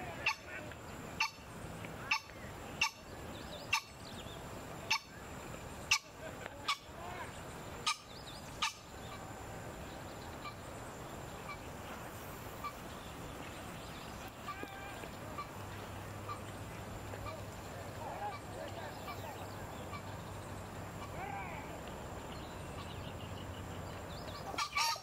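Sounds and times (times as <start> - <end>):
birds calling harsh notes: 0.0 - 25.0.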